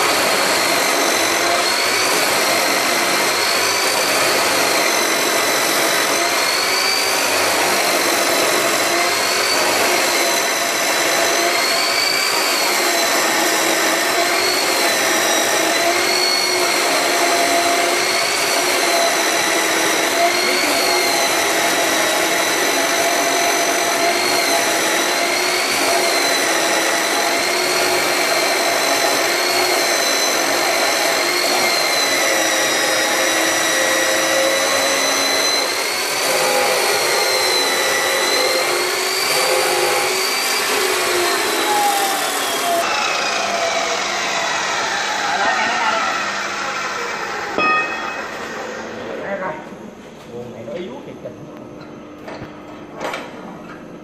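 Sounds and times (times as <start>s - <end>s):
cut-off saw grinding steel: 0.0s - 49.1s.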